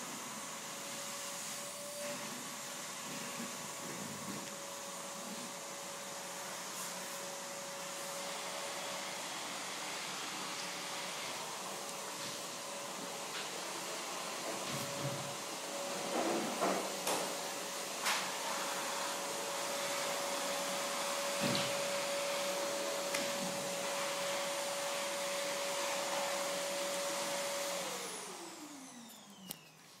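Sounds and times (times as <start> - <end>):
electric appliance motor humming: 0.1 - 30.0.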